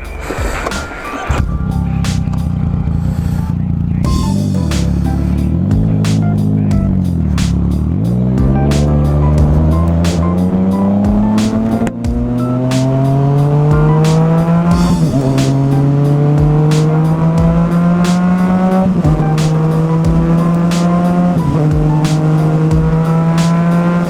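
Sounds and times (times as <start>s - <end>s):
motorcycle engine accelerating: 1.4s - 24.0s.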